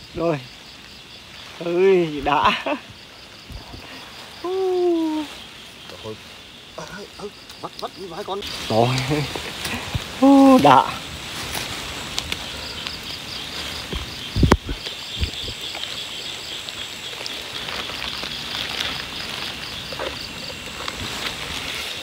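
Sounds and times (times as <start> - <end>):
night insects chirping: 0.0 - 22.0
rain patter: 0.0 - 22.0.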